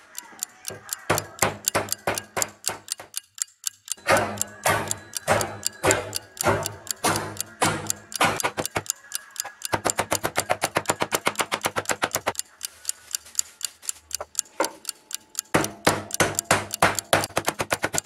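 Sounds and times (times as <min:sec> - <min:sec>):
fast clock ticking: 0:00.0 - 0:18.0.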